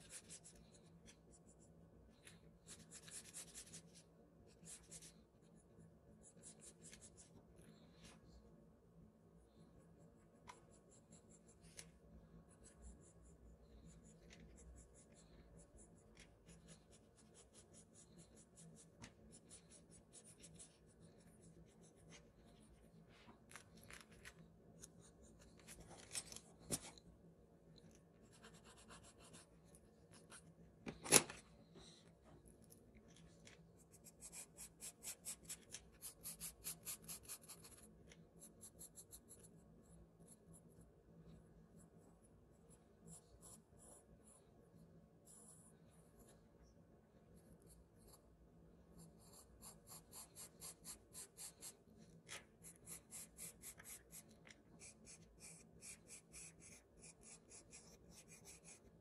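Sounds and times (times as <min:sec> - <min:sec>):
pencil scratching on paper: 0:00.0 - 0:08.2, 0:09.4 - 0:26.9, 0:28.2 - 0:30.6, 0:33.4 - 0:40.9, 0:41.7 - 0:44.6, 0:47.4 - 0:59.0
charcoal pencil strokes: 0:00.0 - 0:08.4, 0:09.4 - 0:27.0, 0:28.2 - 0:30.5, 0:33.1 - 0:40.9, 0:47.4 - 0:59.0.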